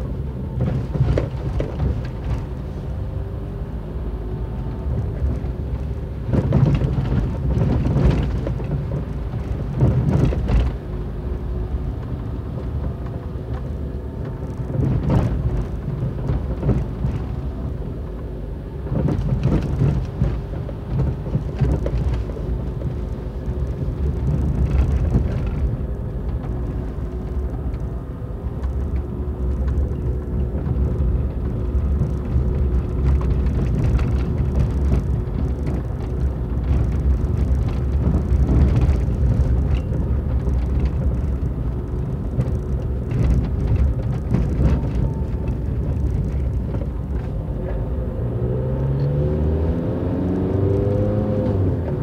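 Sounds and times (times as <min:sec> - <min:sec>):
car rumbling on gravel: 0:00.0 - 0:52.0
car knocking over bumps: 0:00.1 - 0:02.6, 0:04.7 - 0:48.1.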